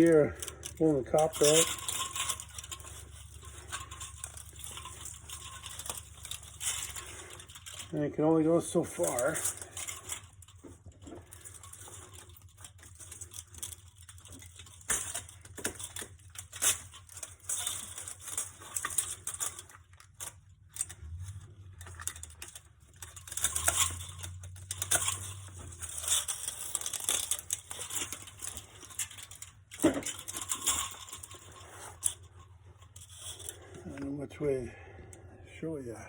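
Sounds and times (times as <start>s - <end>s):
aluminum fins crinkling and tearing: 0.0s - 34.1s.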